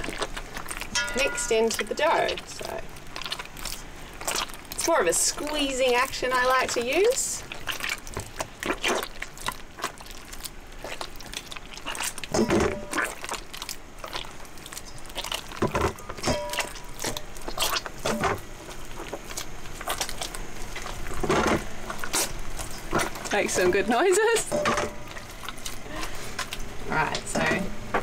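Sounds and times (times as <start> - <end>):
wet dough squelching: 0.0 - 27.9.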